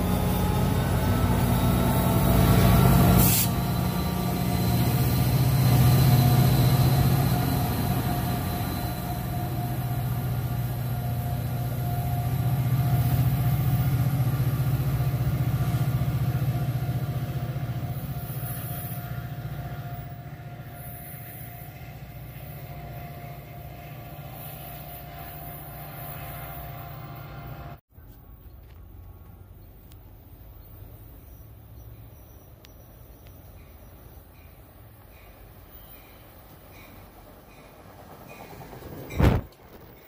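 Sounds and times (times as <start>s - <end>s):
diesel locomotive drone: 0.0s - 40.0s.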